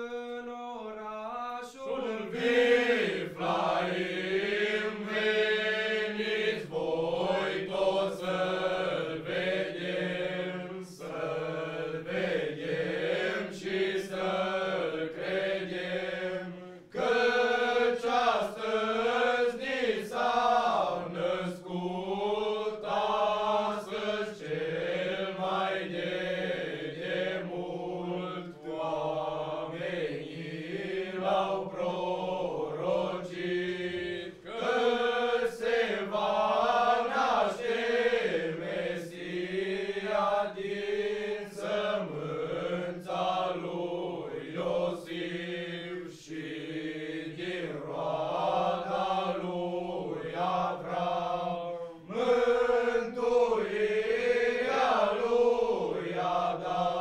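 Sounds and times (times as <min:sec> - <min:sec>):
group of young men singing: 0:01.6 - 0:57.0.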